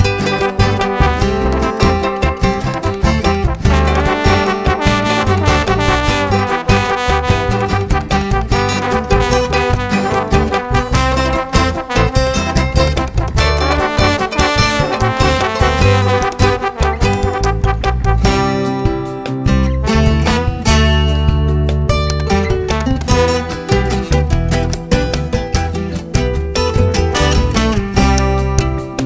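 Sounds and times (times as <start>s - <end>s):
music with pulsing bass beat: 0.0s - 29.0s.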